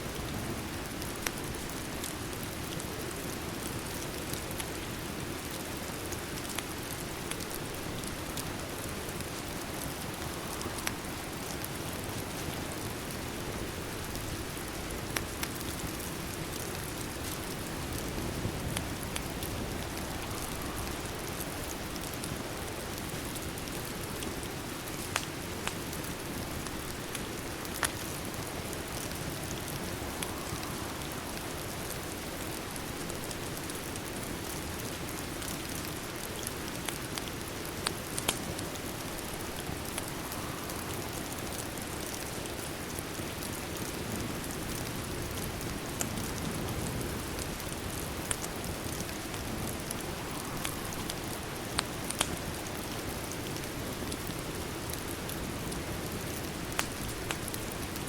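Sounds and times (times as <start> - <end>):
steady rain: 0.0 - 58.0
fireplace crackling: 0.2 - 58.0.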